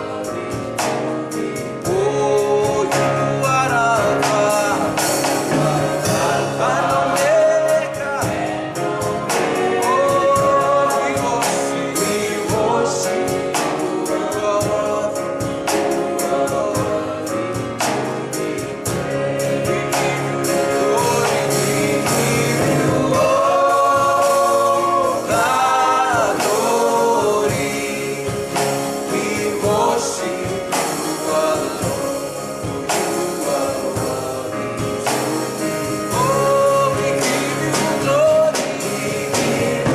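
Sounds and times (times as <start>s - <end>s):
band accompaniment with percussive beat: 0.0s - 39.9s
voices singing together: 0.0s - 39.9s.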